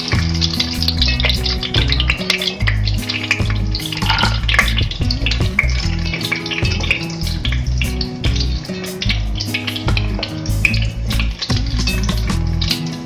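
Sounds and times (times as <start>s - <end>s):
background music with bass line: 0.0s - 13.0s
hot oil sizzling: 0.0s - 13.0s.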